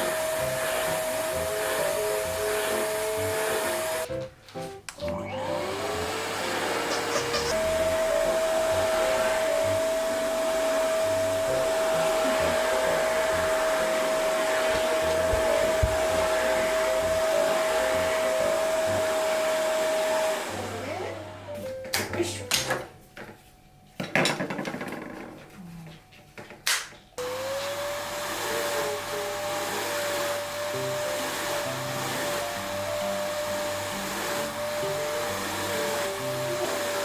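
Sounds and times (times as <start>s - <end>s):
vacuum whining with rushing air: 0.0s - 4.1s, 5.2s - 21.2s, 27.2s - 37.0s.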